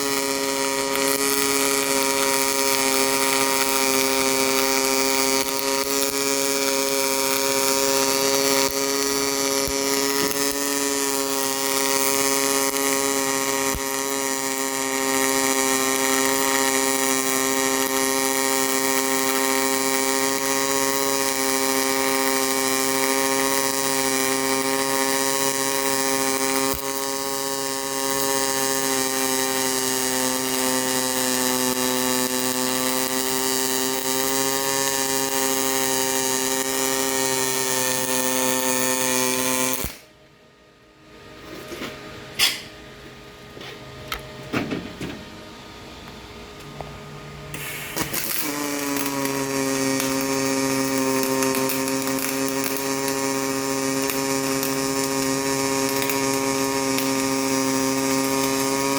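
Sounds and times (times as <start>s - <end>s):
welding arc buzzing and crackling: 0.0s - 40.2s, 41.2s - 58.9s.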